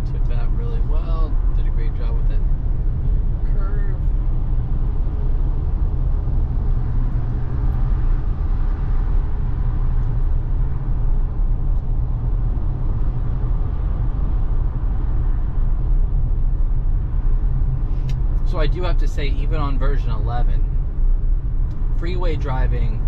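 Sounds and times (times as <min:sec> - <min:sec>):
road and tyre rumble in car: 0:00.0 - 0:23.0.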